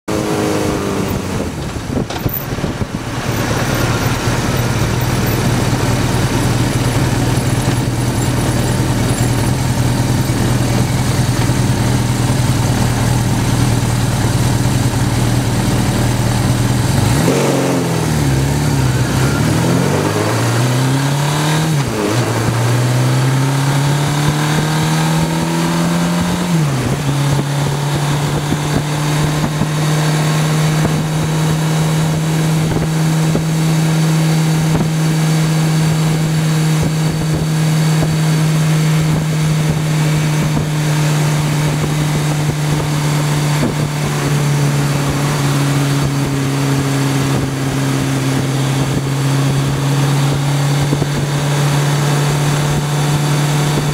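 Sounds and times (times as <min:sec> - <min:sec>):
motorcycle engine running: 0:00.1 - 0:53.9.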